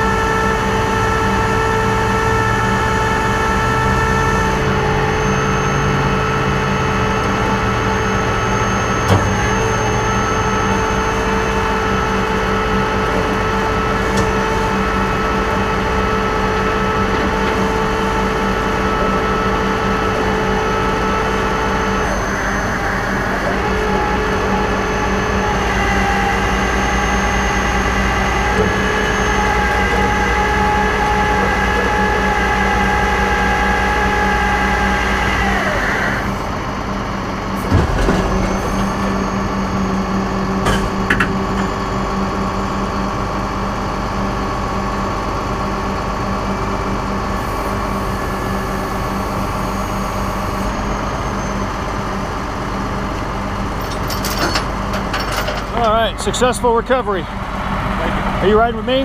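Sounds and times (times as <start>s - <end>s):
hydraulic whine: 0.0s - 59.0s
truck engine running: 0.0s - 59.0s.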